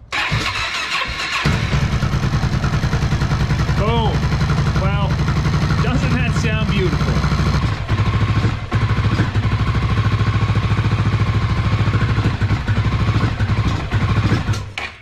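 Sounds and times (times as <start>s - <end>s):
motorcycle engine pulsing: 0.2s - 14.9s.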